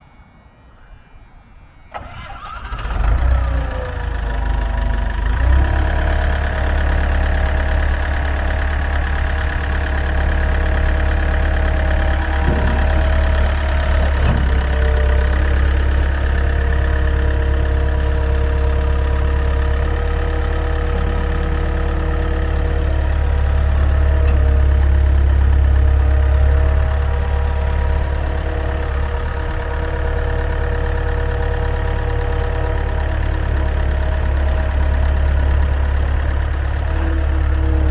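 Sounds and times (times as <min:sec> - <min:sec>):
diesel engine starting and idling: 0:01.8 - 0:37.9.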